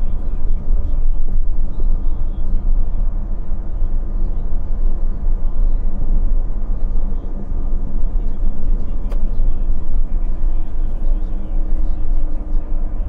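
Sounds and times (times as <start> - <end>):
diesel bus engine drone: 0.0 - 13.0
road and tyre noise: 0.0 - 13.0.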